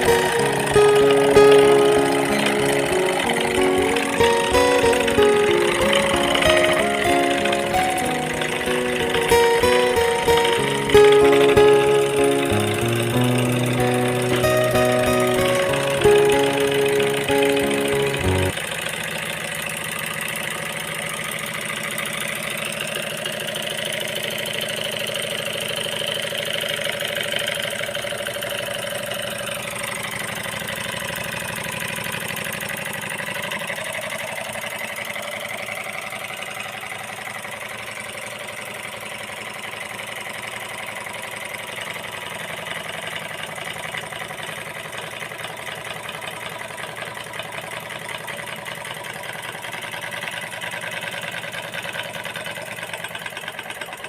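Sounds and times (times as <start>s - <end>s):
small engine clattering: 0.0s - 54.0s.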